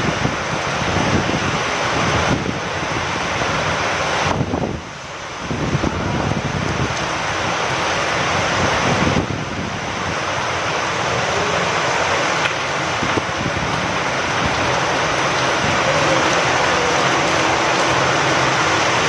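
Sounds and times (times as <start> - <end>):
steady rain falling: 0.0 - 19.0
wind: 0.0 - 19.0.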